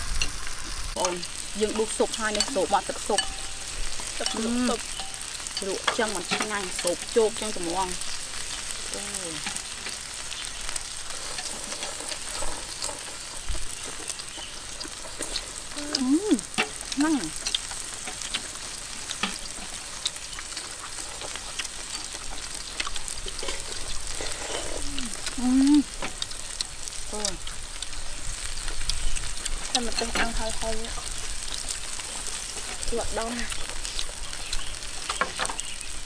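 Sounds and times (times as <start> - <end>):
beef sizzling on grill pan: 0.0 - 36.0.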